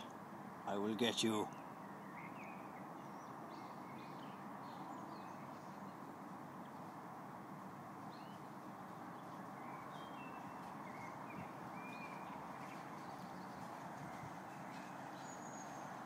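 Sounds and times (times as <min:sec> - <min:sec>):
small birds chirping: 0:00.0 - 0:07.1, 0:07.9 - 0:16.0
outdoor ambience hiss: 0:00.0 - 0:16.0.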